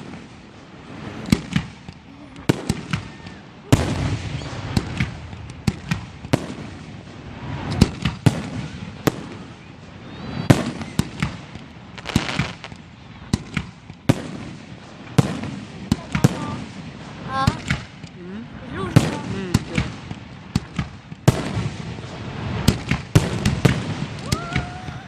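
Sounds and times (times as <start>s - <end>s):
fireworks bangs and pops: 0.0s - 25.0s.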